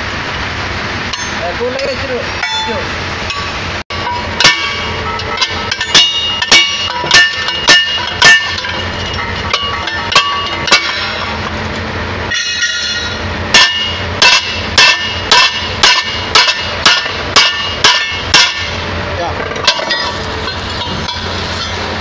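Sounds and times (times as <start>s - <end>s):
hammer striking steel: 1.1s - 18.9s, 19.5s - 22.0s.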